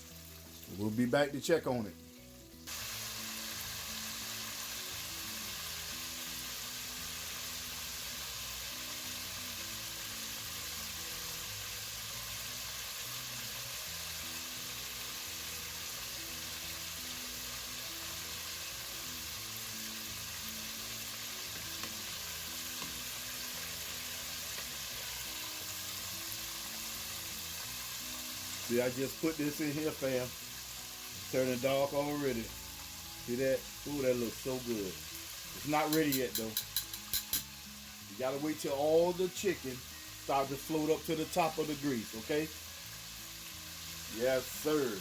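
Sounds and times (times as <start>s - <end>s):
chicken sizzling in hot oil: 0.0s - 45.0s.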